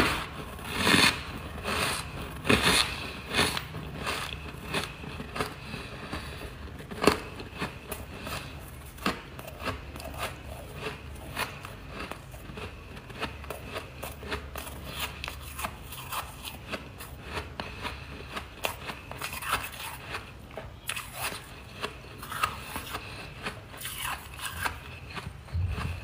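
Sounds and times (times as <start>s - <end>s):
person chewing crunchy frost: 0.0s - 26.0s.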